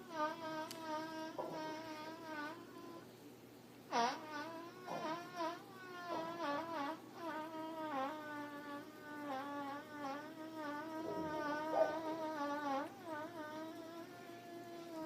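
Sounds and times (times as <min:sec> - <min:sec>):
buzzy cartoon fart sound effect: 0:00.0 - 0:03.0, 0:03.9 - 0:15.0.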